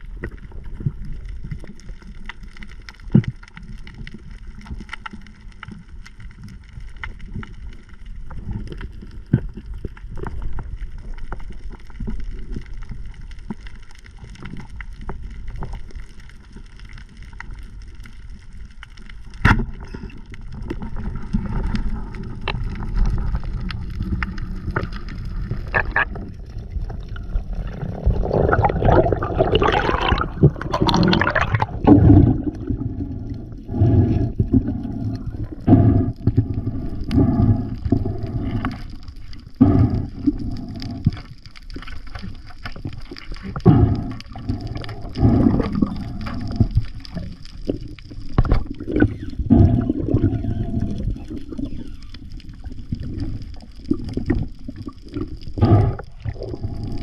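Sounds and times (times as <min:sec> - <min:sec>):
water gurgling underwater: 0:00.0 - 0:57.0.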